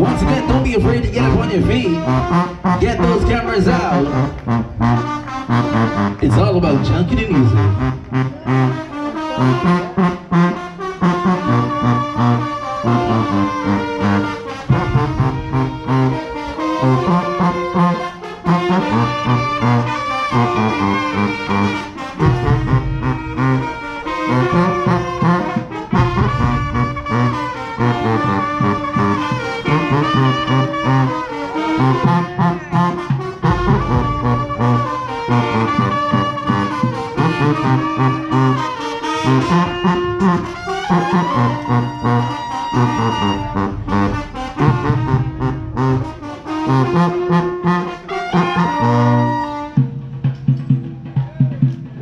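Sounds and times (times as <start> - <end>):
low bass line: 0.0 - 49.4
brass horns playing melody: 0.0 - 50.3
percussion beat: 0.0 - 52.0.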